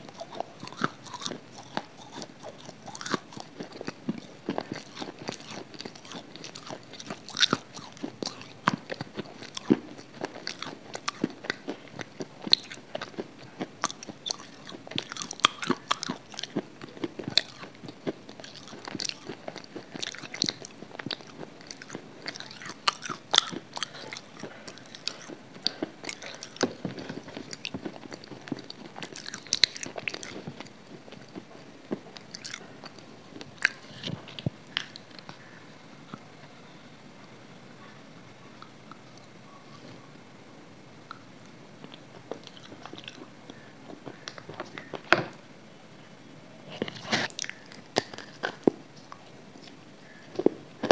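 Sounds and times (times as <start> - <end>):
person chewing crunchy food: 0.0 - 36.3, 41.1 - 45.4, 46.7 - 50.9.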